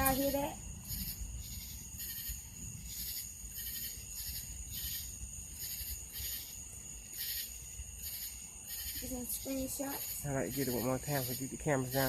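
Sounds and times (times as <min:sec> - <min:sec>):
insect pulsed chirp: 0:00.0 - 0:12.0
insects trilling: 0:00.0 - 0:12.0.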